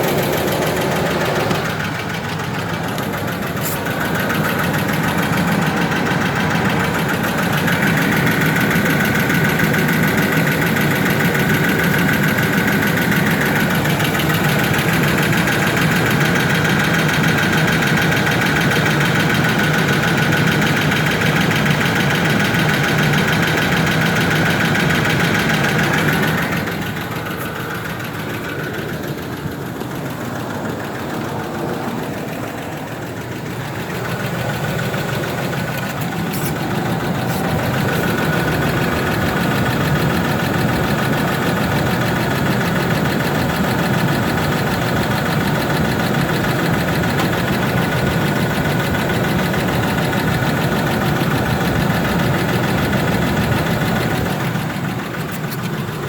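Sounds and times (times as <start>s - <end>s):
engine idling: 0.0s - 56.0s
engine ticking: 0.0s - 56.0s.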